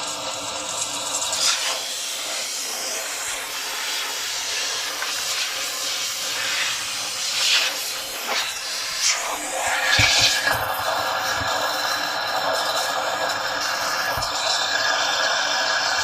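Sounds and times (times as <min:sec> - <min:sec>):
steam cleaner hissing: 0:00.0 - 0:16.0.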